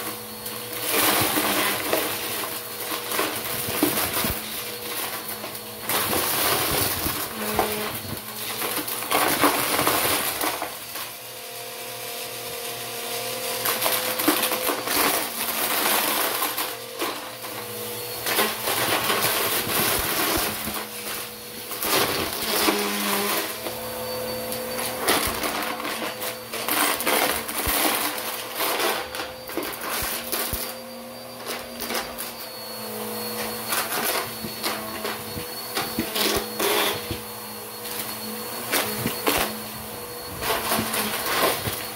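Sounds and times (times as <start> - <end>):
vacuum cleaner motor humming: 0.0 - 41.9.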